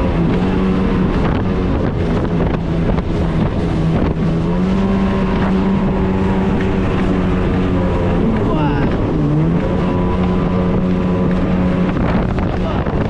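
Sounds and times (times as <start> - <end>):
jet ski motor running: 0.0 - 13.0
wind on microphone: 0.0 - 13.0.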